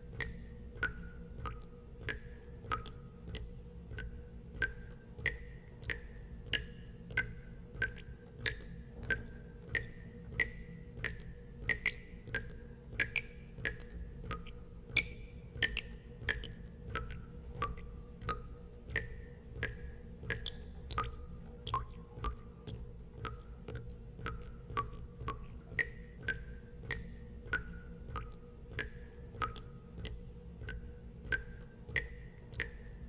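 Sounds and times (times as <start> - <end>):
steady low hum: 0.0 - 33.0
water drops plinking into water: 0.1 - 33.0.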